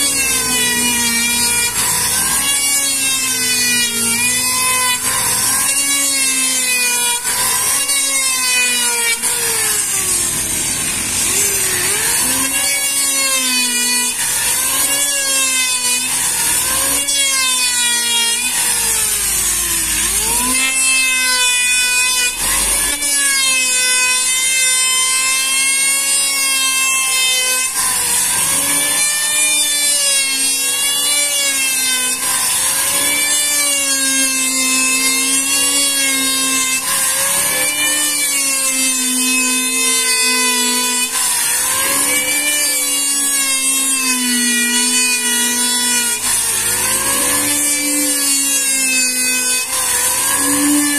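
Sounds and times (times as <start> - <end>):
electric wood planer cutting: 0.0 - 50.9.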